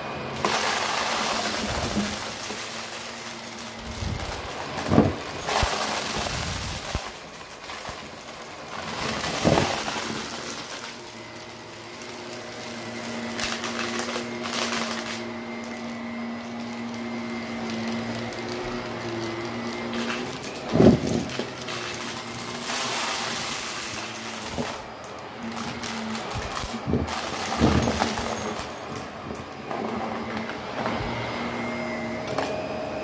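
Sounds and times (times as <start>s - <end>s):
vacuum cleaner on carpet: 0.0s - 33.0s.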